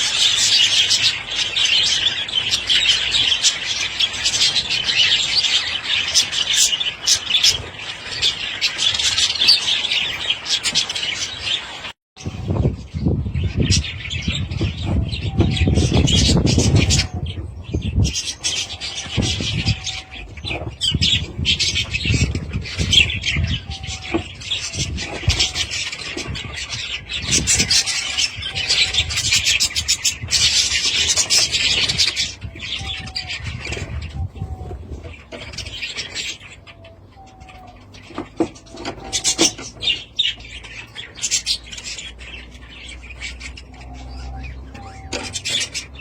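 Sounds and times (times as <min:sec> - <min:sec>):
budgerigars chattering and chirping: 0:00.0 - 0:46.0.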